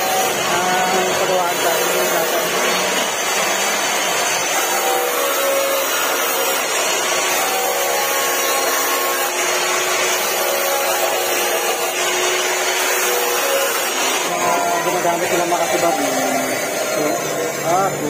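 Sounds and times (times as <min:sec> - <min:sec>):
chop saw cutting metal: 0:00.0 - 0:18.0.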